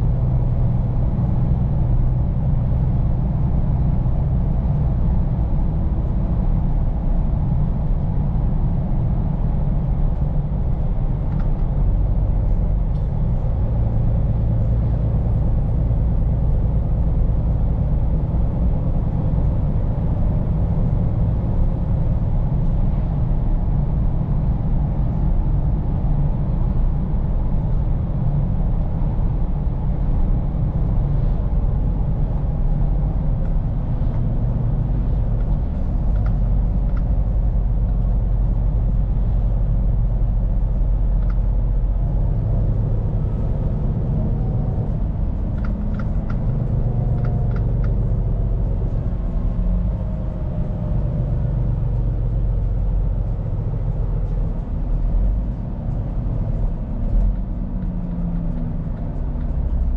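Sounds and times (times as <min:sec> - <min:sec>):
road noise: 0:00.0 - 0:59.9
truck diesel engine droning: 0:00.0 - 0:59.9.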